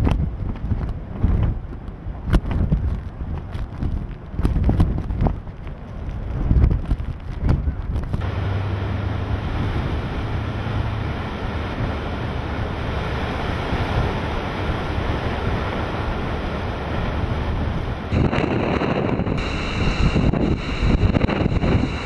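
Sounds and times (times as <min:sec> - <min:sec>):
strong wind buffeting microphone: 0:00.0 - 0:22.0
waves and surf: 0:00.0 - 0:22.0.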